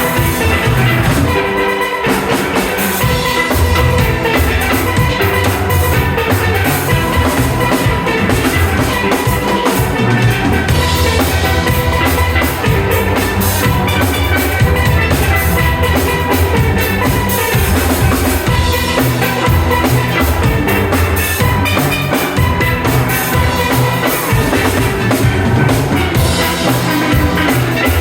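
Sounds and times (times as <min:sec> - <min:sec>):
drum kit beat: 0:00.0 - 0:28.0
steel pans playing melody: 0:00.0 - 0:28.0.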